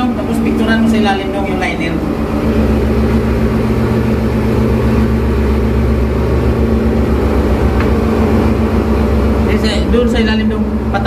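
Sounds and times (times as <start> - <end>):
engine-room machinery drone: 0.0 - 11.0.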